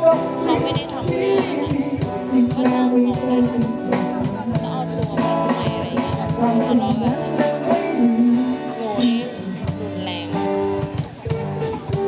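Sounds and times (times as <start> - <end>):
drums: 0.0 - 12.0
hand percussion: 0.0 - 12.0.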